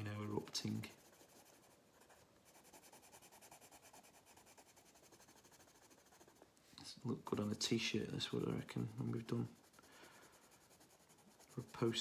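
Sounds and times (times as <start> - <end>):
pencil scratching on paper: 0.1 - 6.5, 8.2 - 12.0.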